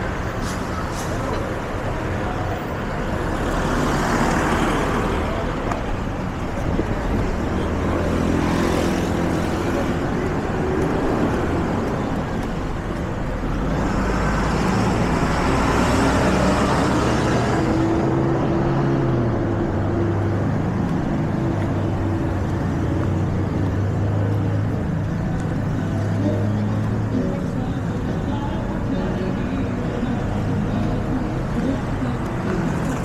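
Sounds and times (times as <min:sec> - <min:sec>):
street traffic noise: 0:00.0 - 0:33.0.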